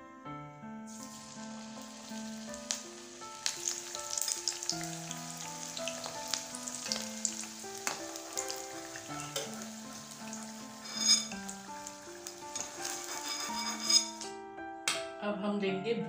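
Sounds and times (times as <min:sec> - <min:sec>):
slow background music: 0:00.0 - 0:16.0
food deep-frying in hot oil: 0:00.9 - 0:14.3
sharp oil crackles: 0:00.9 - 0:14.3.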